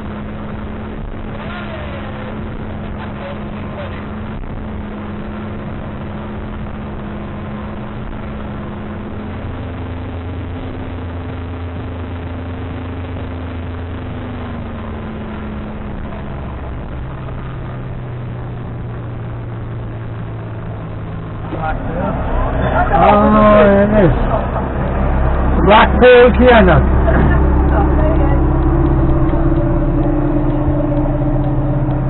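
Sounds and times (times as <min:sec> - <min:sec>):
motorboat engine running: 0:00.0 - 0:32.0
wake water rushing: 0:00.0 - 0:32.0
wind rushing: 0:04.0 - 0:32.0.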